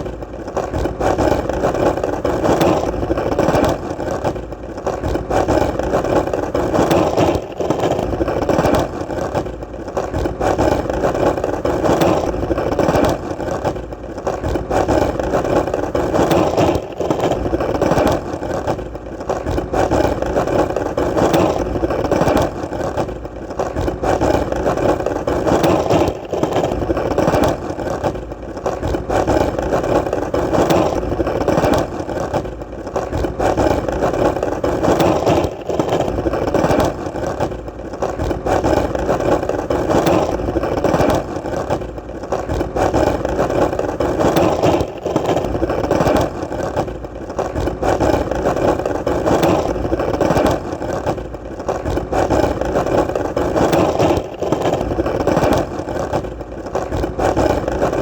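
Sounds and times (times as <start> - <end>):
skateboard clicks: 0.0 - 58.0
skateboard wheels rolling: 0.0 - 58.0.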